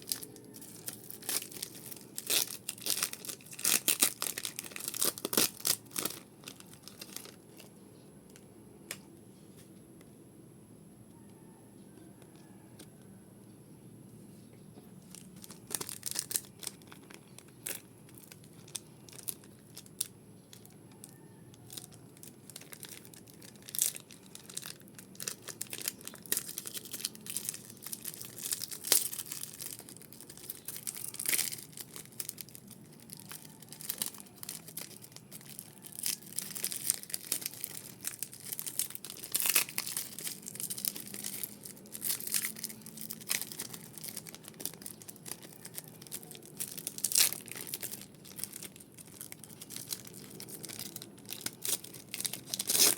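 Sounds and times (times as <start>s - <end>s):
foil wrappers tearing and crinkling: 0.0s - 7.7s, 15.0s - 52.9s.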